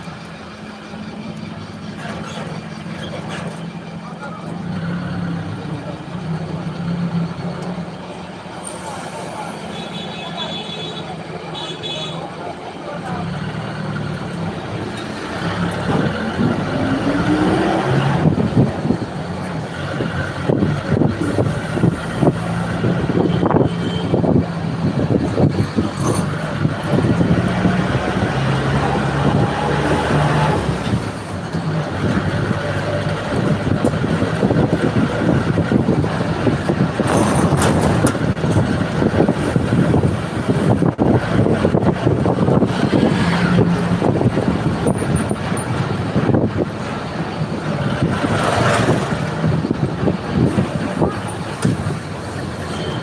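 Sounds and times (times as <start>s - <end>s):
bus body rattling and knocking: 0.0s - 53.0s
bus engine running: 0.0s - 53.0s
road and wind noise: 0.0s - 53.0s.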